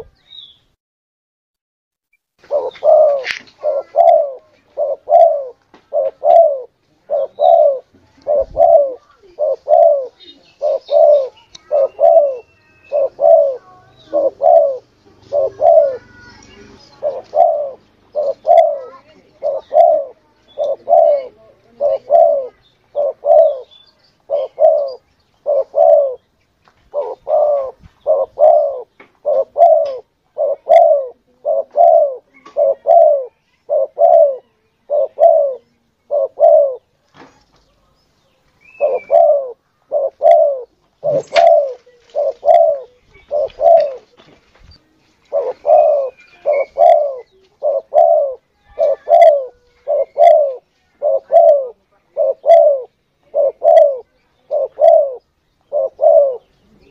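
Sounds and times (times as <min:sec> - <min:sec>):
dove cooing: 0:02.4 - 0:26.3, 0:26.9 - 0:36.9, 0:38.6 - 0:44.2, 0:45.2 - 0:56.9.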